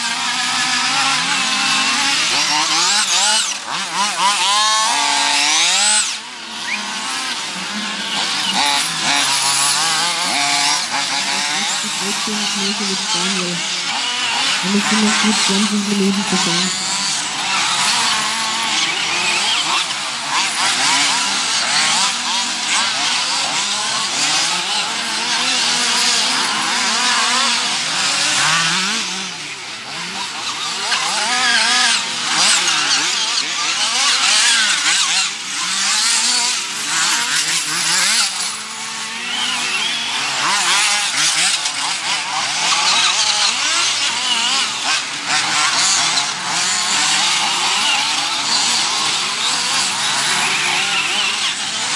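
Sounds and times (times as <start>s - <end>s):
small engines of rc buggies: 0.0s - 51.9s.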